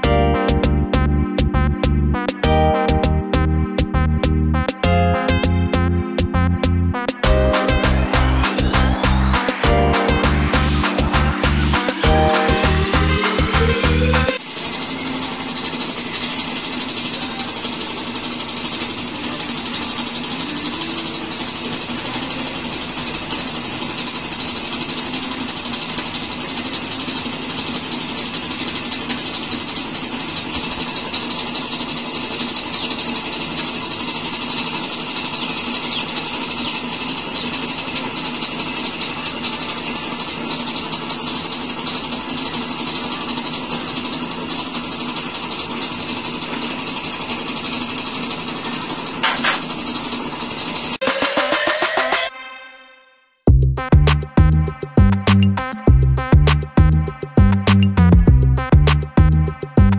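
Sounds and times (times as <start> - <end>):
machine engine running steadily: 0.0 - 52.3, 53.5 - 59.9.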